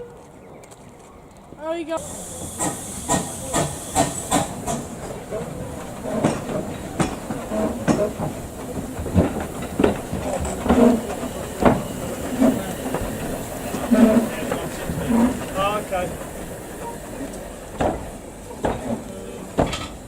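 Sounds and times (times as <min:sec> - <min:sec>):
train wheels and couplings clanking: 0:00.0 - 0:20.0
steam hissing: 0:02.0 - 0:20.0.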